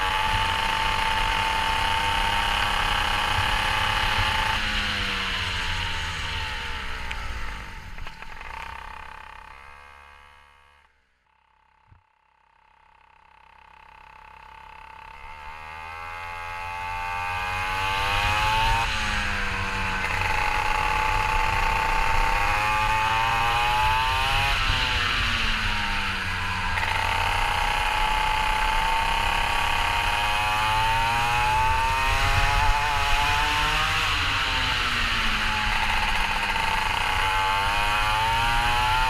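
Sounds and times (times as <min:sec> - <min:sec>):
go-kart engine revving: 0:00.0 - 0:10.9, 0:13.1 - 0:39.0.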